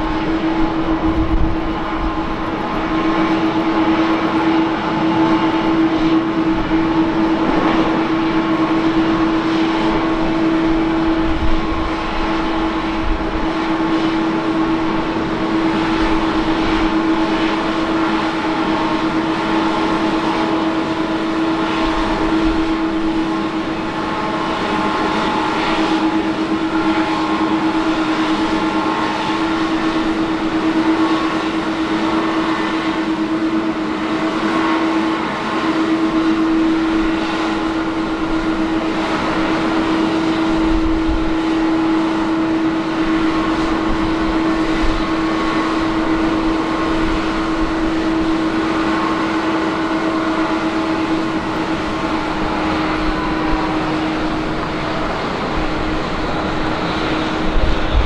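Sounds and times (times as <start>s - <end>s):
jet engines whining at idle: 0.0s - 58.0s.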